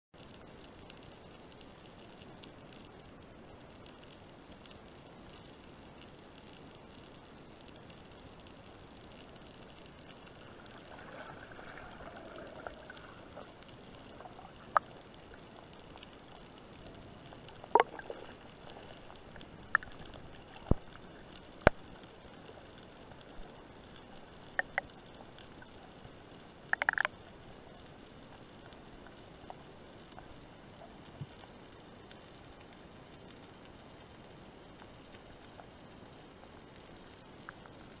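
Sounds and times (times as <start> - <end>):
underwater low hiss: 0.2 - 38.0.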